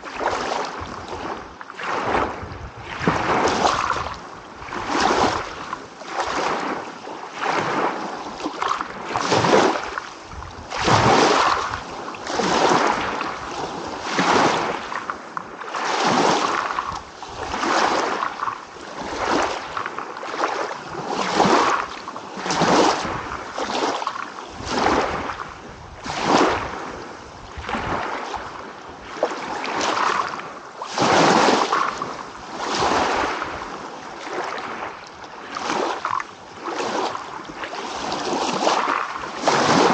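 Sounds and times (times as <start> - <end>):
small waves lapping: 0.0 - 39.9.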